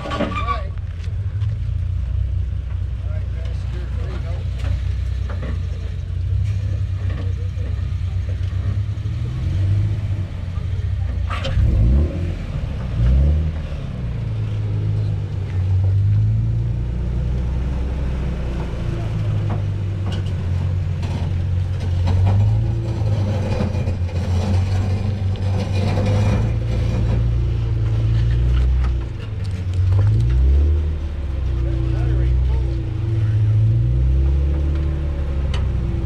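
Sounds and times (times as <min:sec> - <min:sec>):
car engine at low revs: 0:00.0 - 0:36.0.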